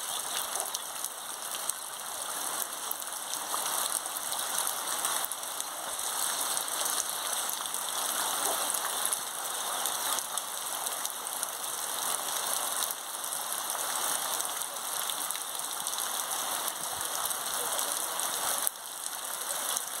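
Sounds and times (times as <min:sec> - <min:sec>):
heavy rain on foliage: 0:00.0 - 0:20.0.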